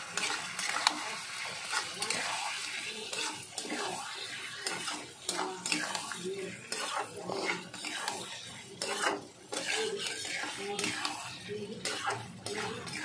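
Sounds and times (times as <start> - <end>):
metal spatula scraping a pan: 0.0 - 13.0.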